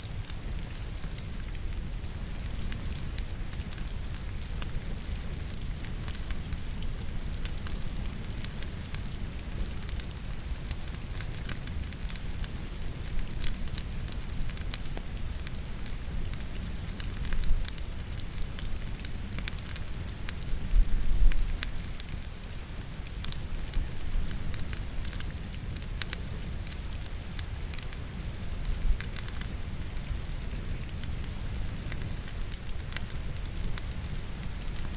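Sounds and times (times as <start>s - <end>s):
logs crackling and popping: 0.0s - 34.9s
rain pattering: 0.0s - 34.9s.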